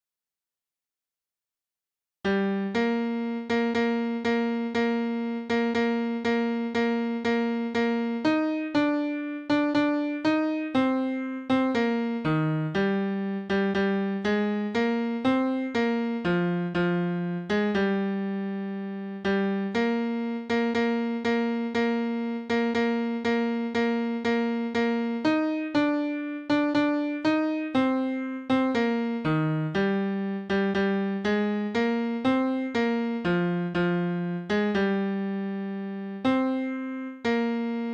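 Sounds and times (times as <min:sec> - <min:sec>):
piano playing hymn chords: 0:02.6 - 0:37.9.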